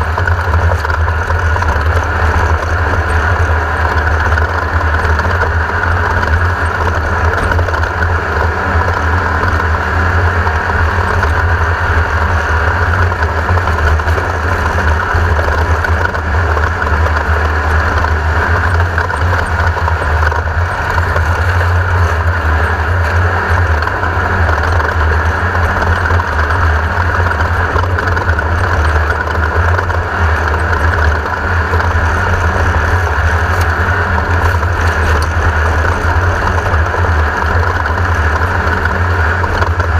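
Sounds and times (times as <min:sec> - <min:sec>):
buggy engine running loud: 0:00.0 - 0:39.9.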